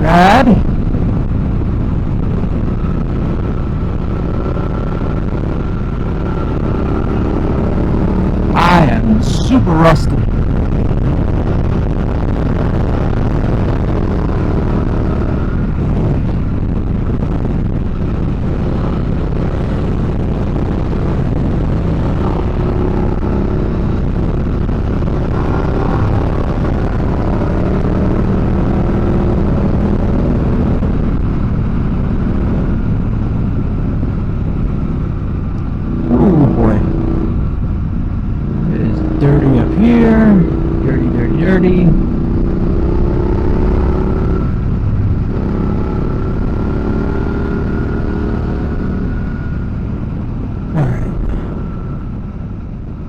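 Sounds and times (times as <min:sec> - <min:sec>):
motorcycle engine running: 0:00.0 - 0:09.6, 0:10.2 - 0:53.0
wind and road noise: 0:00.0 - 0:53.0.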